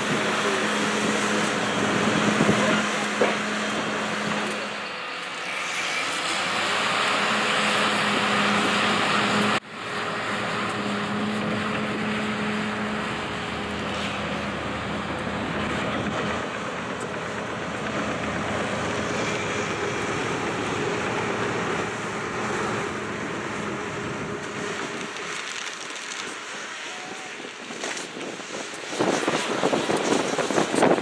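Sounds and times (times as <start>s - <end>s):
heavy diesel engines running: 0.0s - 31.0s.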